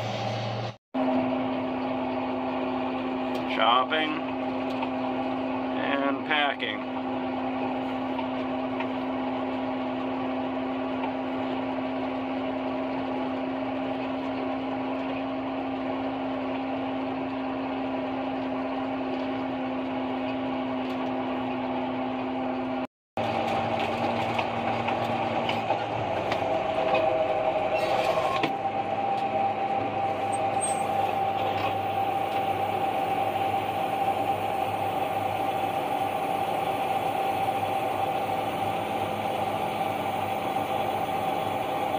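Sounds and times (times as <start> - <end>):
forage harvester drone: 0.0 - 41.9.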